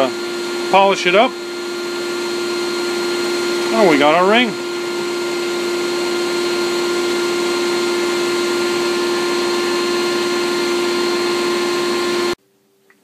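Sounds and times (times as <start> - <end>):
vacuum motor humming and rushing: 0.0 - 12.4.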